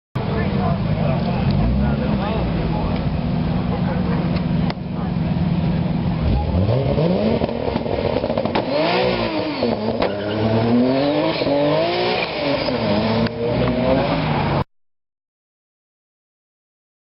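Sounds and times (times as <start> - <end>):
sports car engine revving: 0.2 - 14.6.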